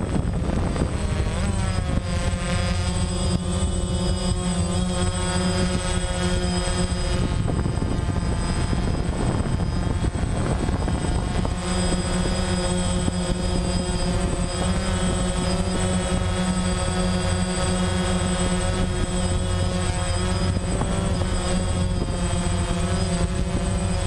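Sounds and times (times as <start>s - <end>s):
drone propellers droning: 0.0s - 24.0s.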